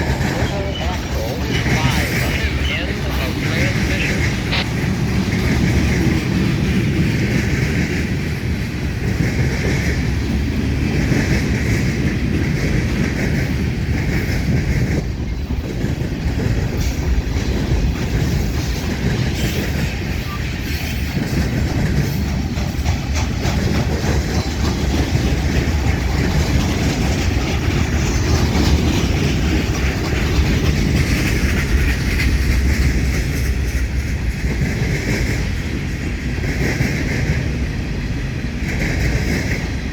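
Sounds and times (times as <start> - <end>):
train wheels clattering over crossing: 0.0 - 39.9.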